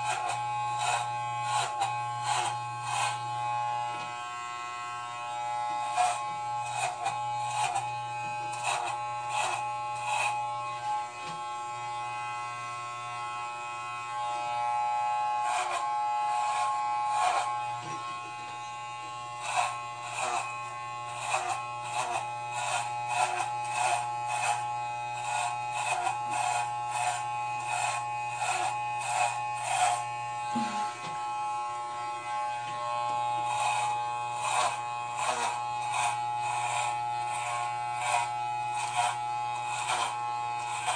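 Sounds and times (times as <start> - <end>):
clipper blades rasping through hair: 0.0 - 40.9
electric hair clipper buzzing: 0.0 - 40.9.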